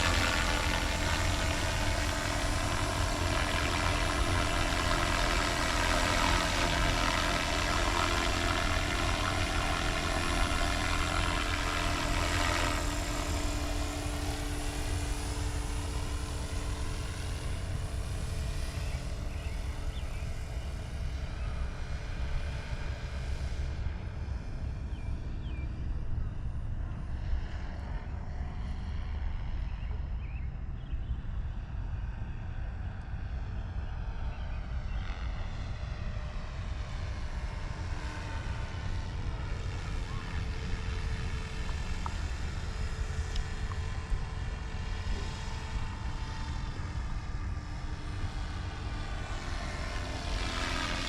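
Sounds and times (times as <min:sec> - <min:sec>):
helicopter rotor and engine drone: 0:00.0 - 0:51.0.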